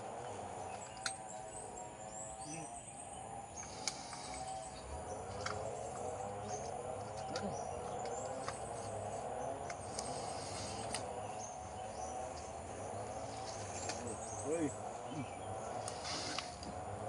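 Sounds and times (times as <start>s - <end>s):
insects droning: 0.0s - 17.0s
faint bird chirps: 0.5s - 16.6s.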